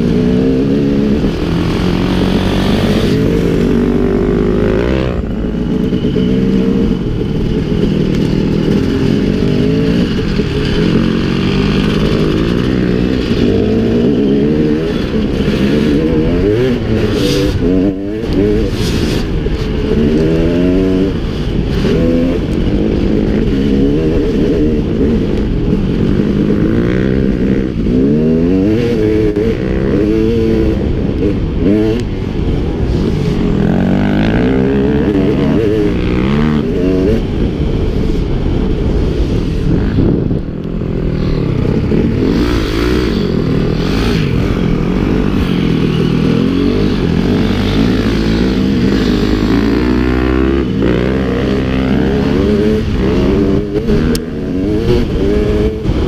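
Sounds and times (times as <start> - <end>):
dirt bike engine revving: 0.0 - 38.0, 39.6 - 56.0.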